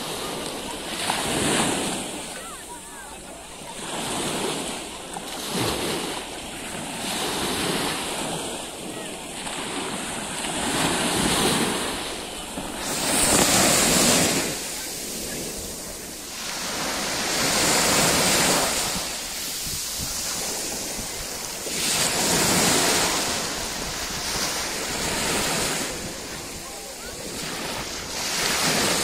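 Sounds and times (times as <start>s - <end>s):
small waves breaking on beach: 0.0s - 29.0s.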